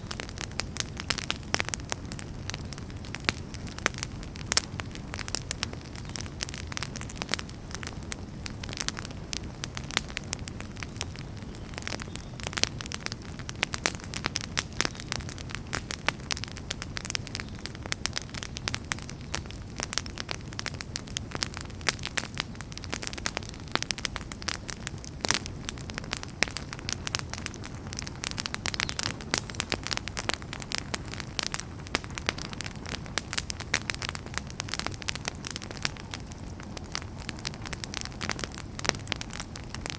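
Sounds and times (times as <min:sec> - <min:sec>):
firewood crackling and popping: 0:00.0 - 0:39.9
wood fire rumbling: 0:00.0 - 0:39.9.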